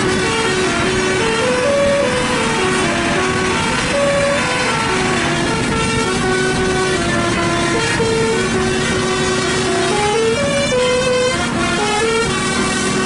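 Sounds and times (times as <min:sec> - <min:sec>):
musical bus horn tune: 0:00.0 - 0:13.0
vehicle rumble: 0:00.0 - 0:13.0.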